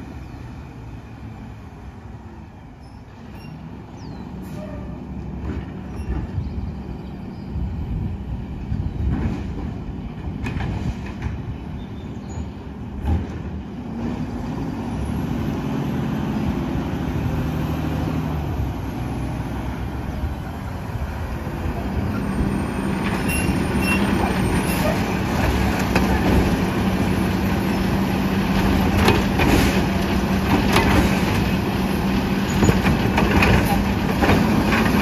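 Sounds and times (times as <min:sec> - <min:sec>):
garbage truck engine running: 0:05.2 - 0:35.0.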